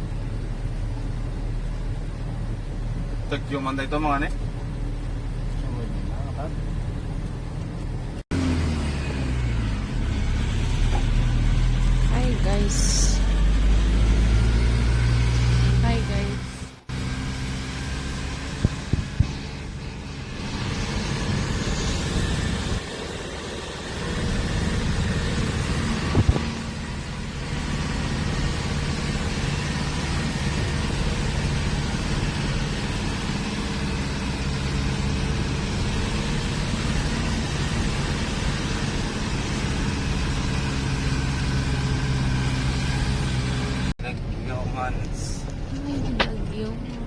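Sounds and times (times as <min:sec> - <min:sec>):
road noise: 0:00.0 - 0:47.0
vehicle engine running: 0:00.0 - 0:47.0.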